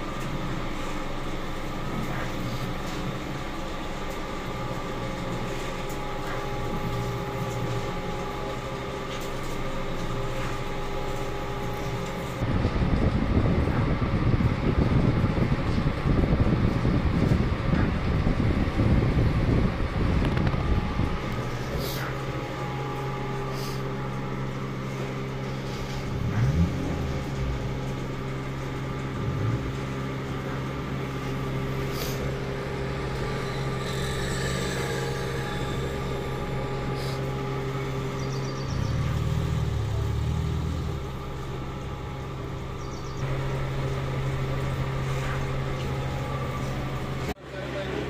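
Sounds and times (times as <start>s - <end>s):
oil press machine hum: 0.0s - 48.0s.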